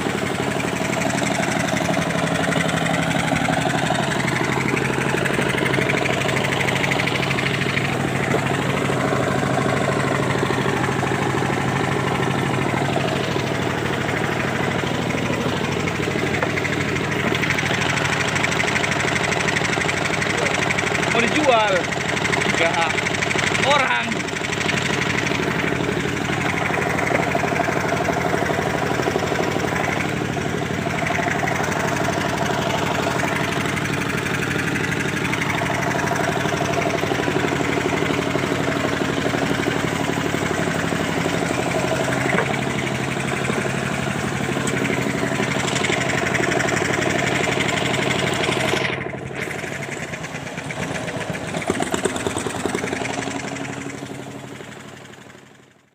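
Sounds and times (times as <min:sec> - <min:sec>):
dredging pump engine running: 0:00.0 - 0:55.9.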